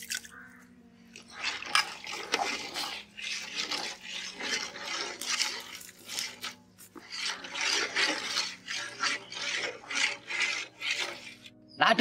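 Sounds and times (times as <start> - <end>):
metal ladle stirring in a pot: 1.2 - 11.5.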